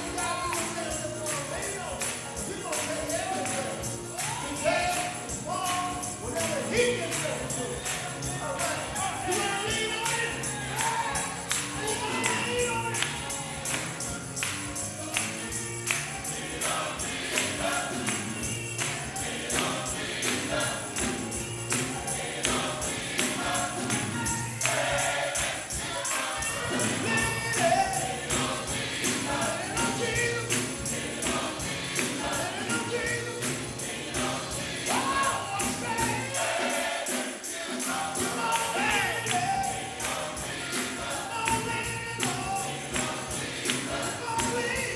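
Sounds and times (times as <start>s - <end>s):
gospel choir singing: 0.0s - 44.9s
tambourine beat: 0.0s - 44.9s.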